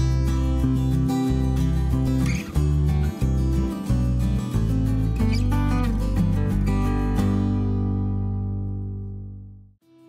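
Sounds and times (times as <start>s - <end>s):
low bass line: 0.0s - 9.8s
guitar music: 0.0s - 10.0s.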